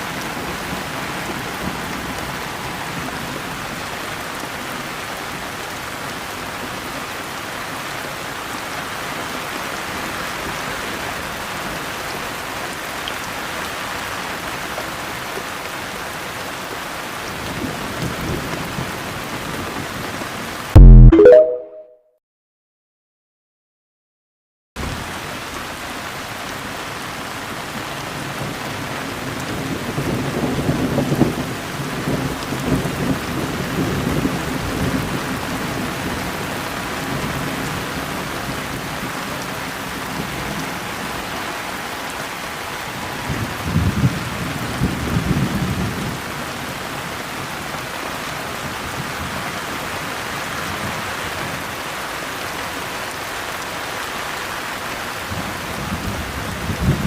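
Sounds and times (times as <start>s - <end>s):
steady rain falling: 0.0s - 20.7s, 24.8s - 57.0s.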